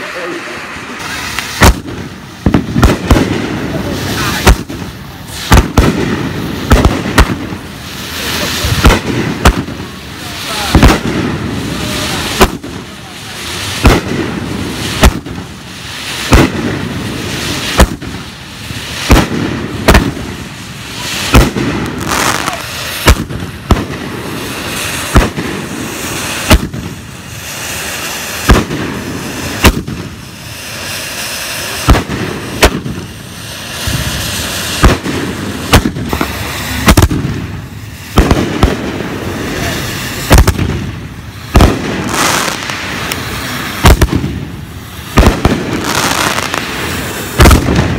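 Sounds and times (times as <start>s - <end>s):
fireworks bangs: 0.0s - 47.9s
fireworks crackle and hiss: 0.0s - 47.9s.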